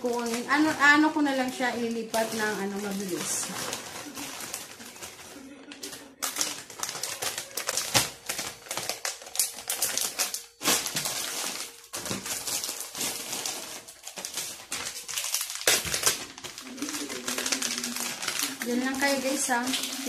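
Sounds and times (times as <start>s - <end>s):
nuts rattling into plastic pouches: 0.0s - 20.0s
plastic packaging crinkling: 0.0s - 20.0s.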